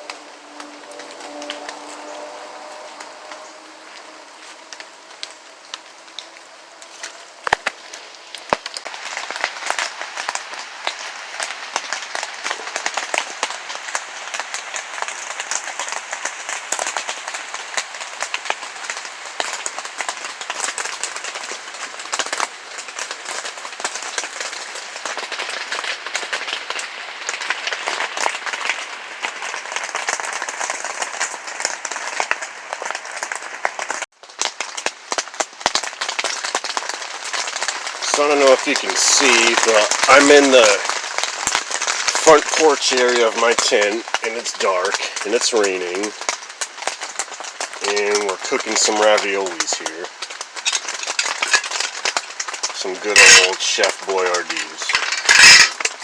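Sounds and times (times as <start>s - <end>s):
heavy rain on tarps: 0.0s - 56.0s.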